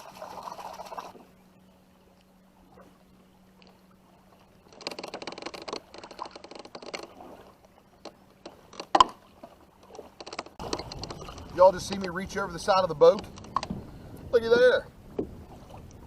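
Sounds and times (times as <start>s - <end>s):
faint steady hum: 0.0s - 16.0s
rustling and clatter in a boat: 0.0s - 16.0s.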